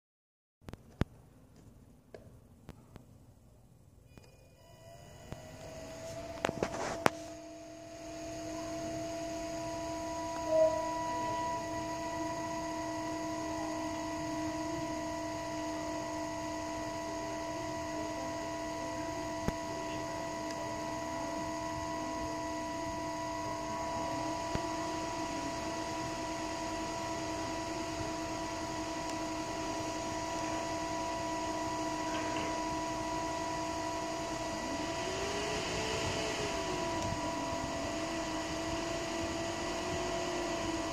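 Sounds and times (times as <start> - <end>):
computer fans humming: 4.7 - 40.9.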